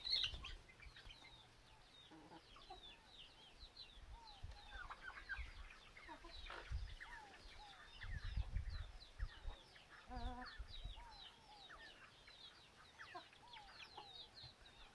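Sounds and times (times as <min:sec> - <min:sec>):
chickens clucking: 0:00.0 - 0:03.6, 0:04.3 - 0:14.9.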